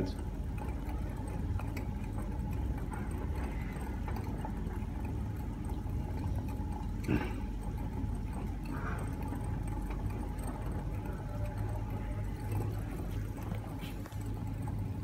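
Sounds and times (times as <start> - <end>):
hot plates humming: 0.0 - 15.0.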